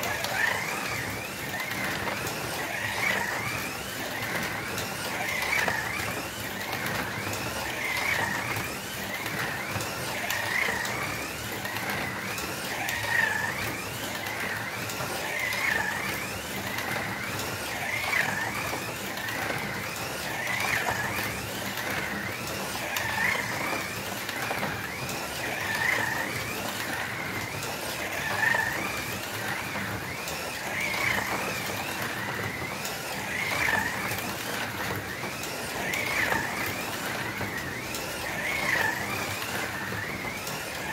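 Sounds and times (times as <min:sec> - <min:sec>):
slot car motors whining: 0:00.0 - 0:40.9.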